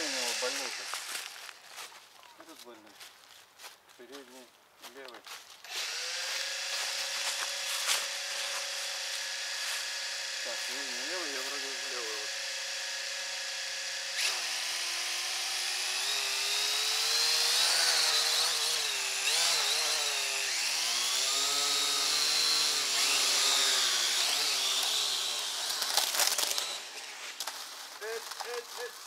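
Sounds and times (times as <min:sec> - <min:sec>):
toy drone propellers whining: 0:00.0 - 0:01.1, 0:05.6 - 0:28.9.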